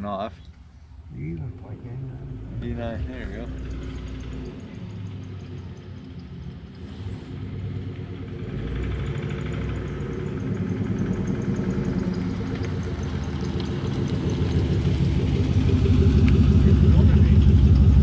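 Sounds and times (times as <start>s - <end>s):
car engine running: 1.0s - 18.0s.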